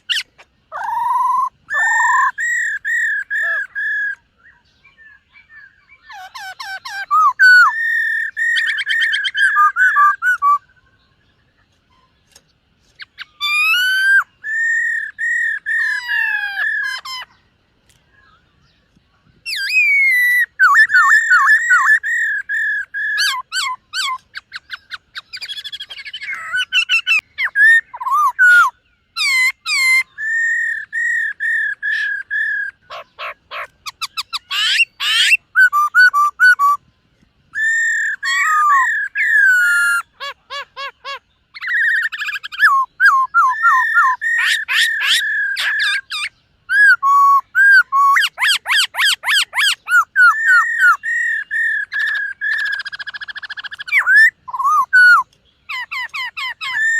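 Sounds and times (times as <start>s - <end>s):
bird singing whistled phrases: 0.0s - 11.3s, 13.0s - 17.4s, 19.4s - 36.8s, 37.5s - 56.9s.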